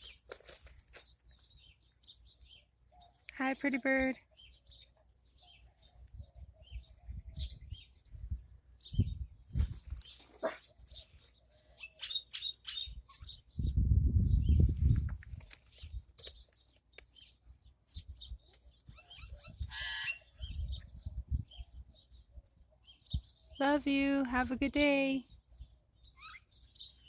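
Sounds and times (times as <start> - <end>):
pet birds chirping: 1.0 - 27.0.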